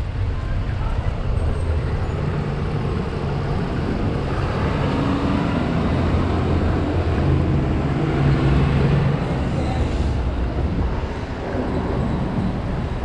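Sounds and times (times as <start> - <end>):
passing cars rumbling: 0.0 - 13.0.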